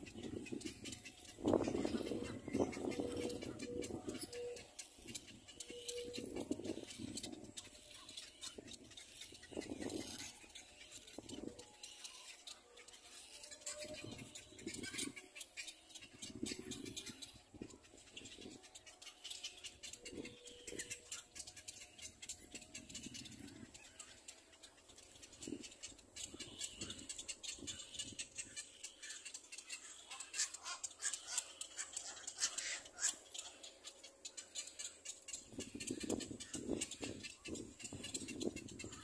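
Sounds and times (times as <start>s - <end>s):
chicks begging calls: 0.0s - 11.6s, 12.3s - 39.0s.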